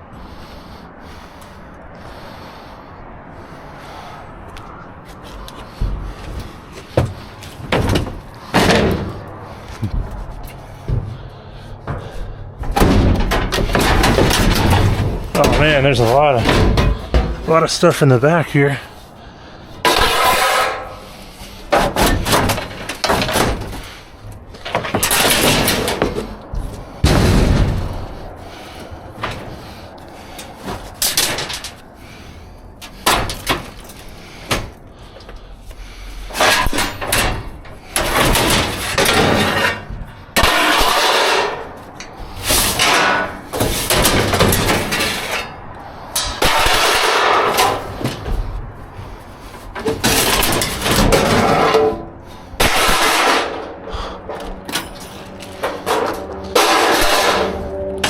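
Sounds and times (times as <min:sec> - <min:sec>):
scraping clatters: 0:05.1 - 0:17.9, 0:19.8 - 0:58.0
scrap clanking and rattling: 0:05.1 - 0:19.1, 0:19.8 - 0:58.0.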